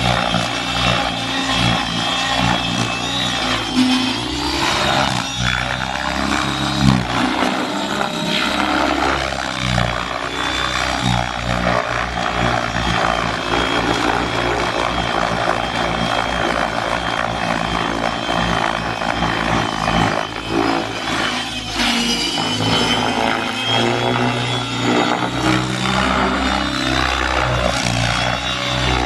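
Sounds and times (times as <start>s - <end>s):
high electric motor whine: 0.0s - 29.0s
rotor blades thrumming: 0.0s - 29.0s.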